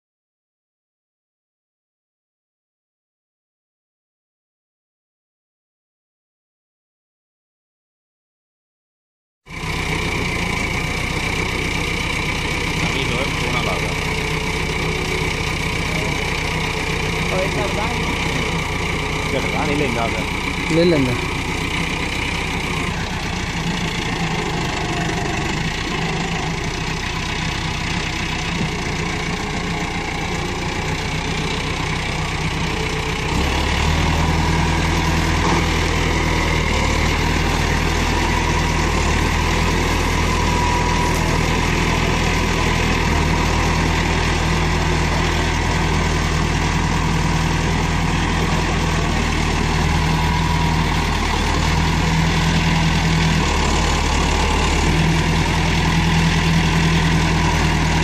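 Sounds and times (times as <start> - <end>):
tractor diesel engine running: 9.5 - 58.0.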